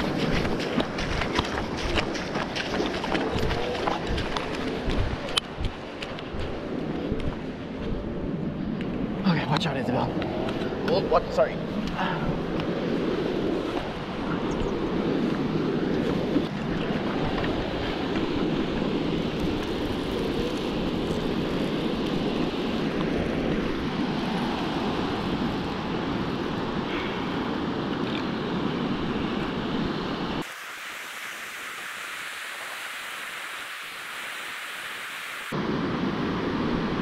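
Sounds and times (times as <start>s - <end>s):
breaking surf: 0.0s - 6.8s, 9.2s - 37.0s
wind buffeting microphone: 0.0s - 30.5s.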